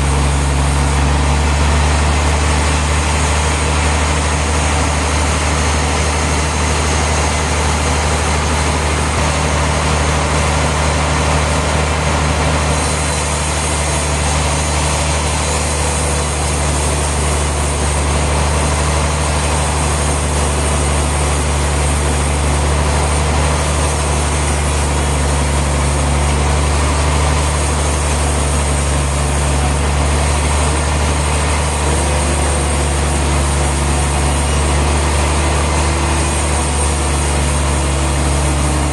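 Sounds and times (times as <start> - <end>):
machinery engine droning: 0.0 - 38.9.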